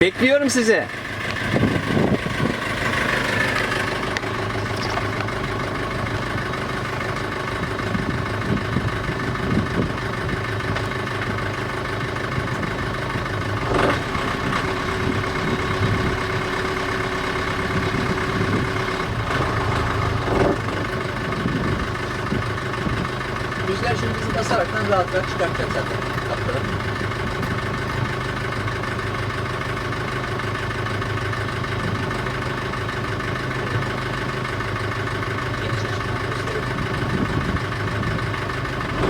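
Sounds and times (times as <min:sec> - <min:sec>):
boat engine idling: 0:00.0 - 0:39.0.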